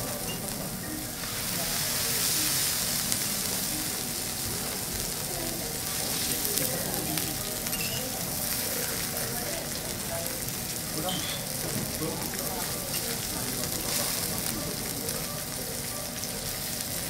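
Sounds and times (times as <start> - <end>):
steak sizzling on a griddle: 0.0 - 17.0.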